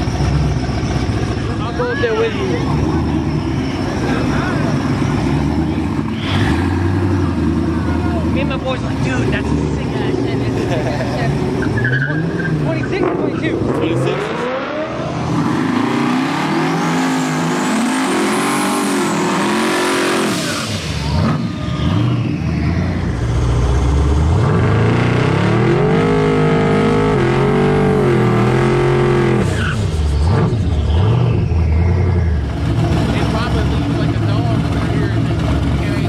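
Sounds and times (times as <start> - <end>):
tyres spinning and squealing: 0.0 - 10.6, 11.3 - 25.0, 26.0 - 36.0
car engine revving hard: 0.0 - 36.0.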